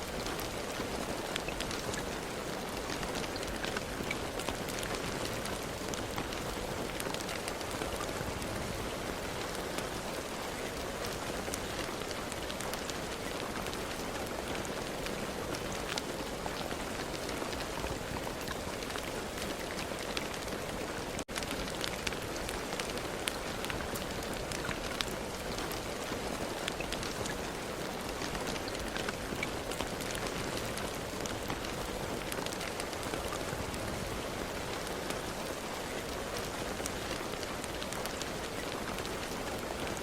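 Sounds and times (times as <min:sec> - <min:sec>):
rain falling: 0:00.0 - 0:40.0
raindrops ticking on a surface: 0:00.0 - 0:40.0.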